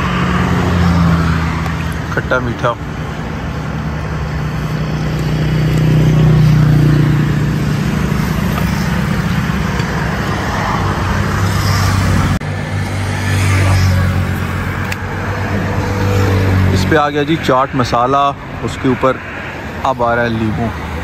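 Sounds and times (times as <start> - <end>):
road traffic: 0.0 - 21.0
vehicle engine running close by: 0.0 - 21.0.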